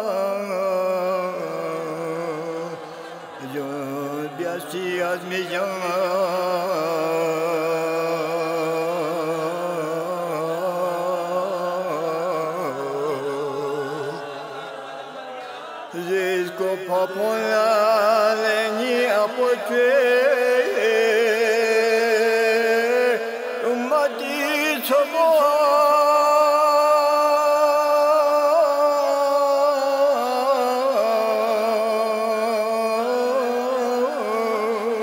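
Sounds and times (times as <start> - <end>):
man chanting: 0.0 - 14.5, 15.4 - 35.0.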